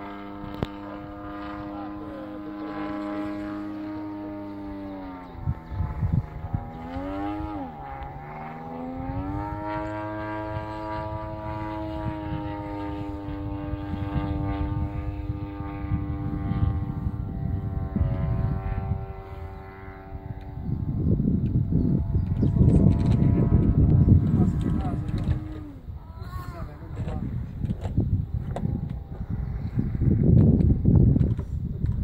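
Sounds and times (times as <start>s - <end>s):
gusty wind noise on microphone: 0.0s - 32.0s
model aircraft engine droning: 0.0s - 32.0s.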